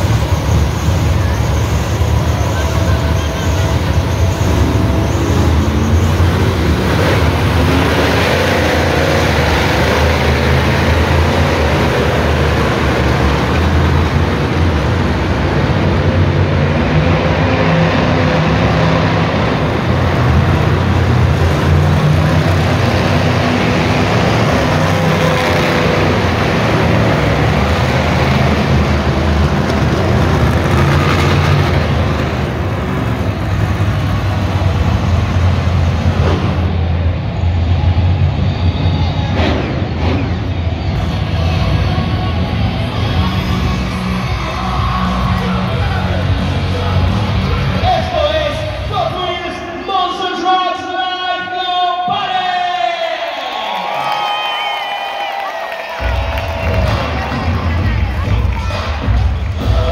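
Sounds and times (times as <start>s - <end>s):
monster truck engines revving: 0.0s - 52.4s, 53.1s - 59.9s.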